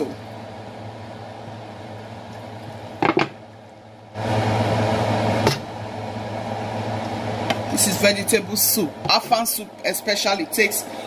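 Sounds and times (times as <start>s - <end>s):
kitchen appliance hum: 0.0s - 11.0s.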